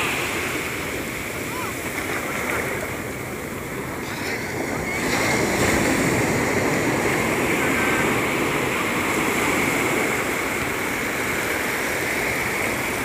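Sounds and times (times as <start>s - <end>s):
sea surf breaking: 0.0s - 13.0s.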